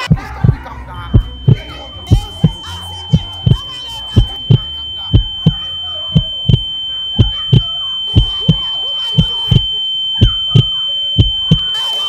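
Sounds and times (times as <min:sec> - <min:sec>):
heartbeat double thump: 0:00.0 - 0:11.8
high-pitched ringing tone: 0:00.0 - 0:12.0.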